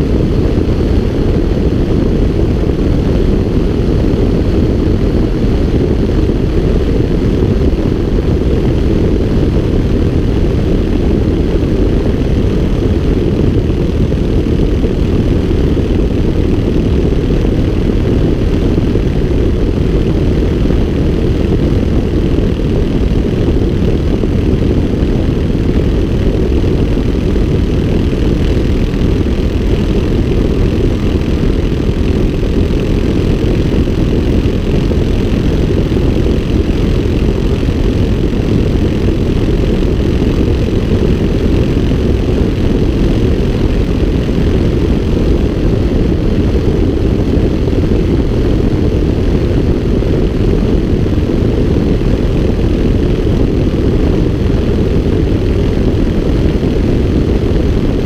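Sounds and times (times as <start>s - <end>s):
propeller aircraft engine drone: 0.0s - 58.0s
wind on microphone: 0.0s - 58.0s.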